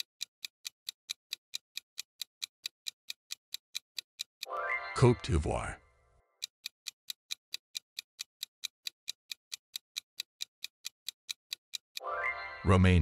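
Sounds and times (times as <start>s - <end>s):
countdown timer ticking: 0.0s - 13.0s.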